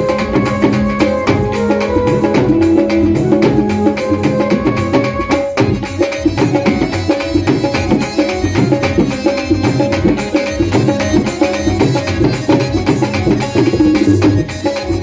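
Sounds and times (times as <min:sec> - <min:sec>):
dhol drumming: 0:00.0 - 0:15.0
music with held melodic notes: 0:00.0 - 0:15.0.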